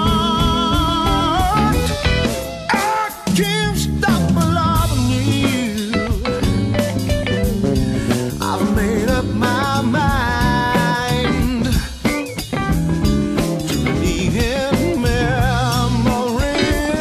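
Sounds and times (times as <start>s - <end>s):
man singing: 0.0s - 6.6s, 8.0s - 12.3s, 13.6s - 17.0s
bass guitar: 0.0s - 17.0s
drum kit: 0.0s - 17.0s
electric guitar: 0.0s - 17.0s.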